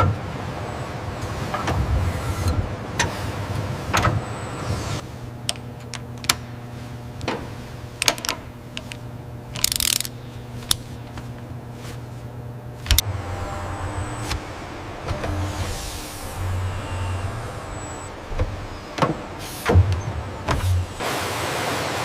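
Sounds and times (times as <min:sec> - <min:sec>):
low machine hum: 0:00.0 - 0:21.1.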